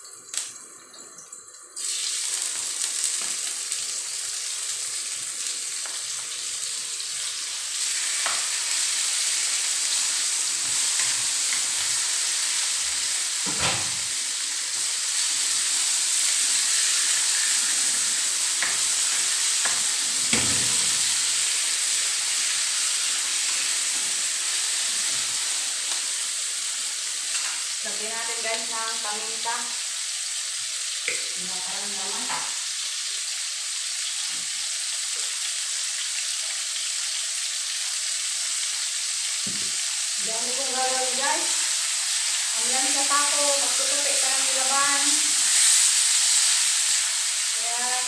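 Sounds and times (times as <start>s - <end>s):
chicken sizzling in a wok: 0.0s - 0.9s, 1.7s - 48.0s.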